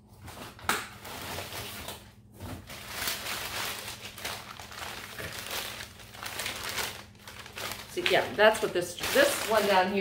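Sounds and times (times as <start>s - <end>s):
packing paper crinkling: 0.2s - 10.0s.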